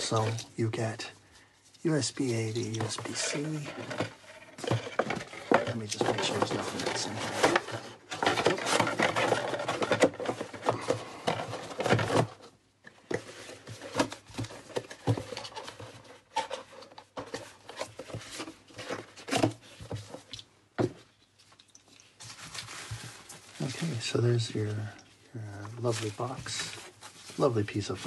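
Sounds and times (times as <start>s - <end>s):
cardboard and foam rustling: 0.0s - 1.1s, 1.8s - 28.0s.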